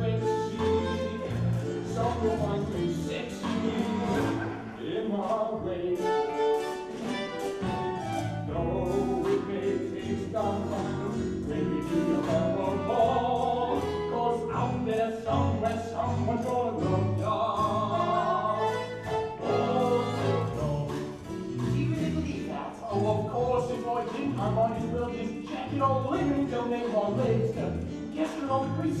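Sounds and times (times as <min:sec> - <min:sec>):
instrumental accompaniment: 0:00.0 - 0:29.0
person singing: 0:00.0 - 0:29.0.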